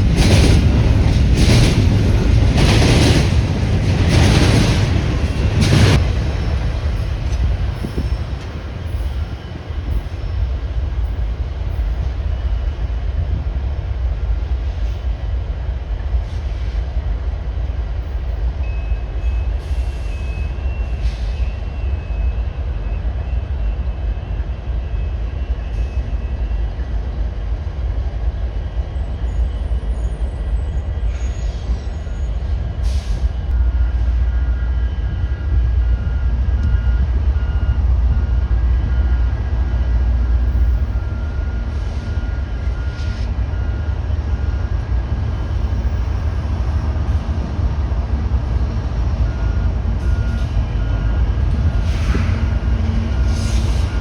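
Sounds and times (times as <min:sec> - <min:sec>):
train rumbling by: 0:00.0 - 0:54.0.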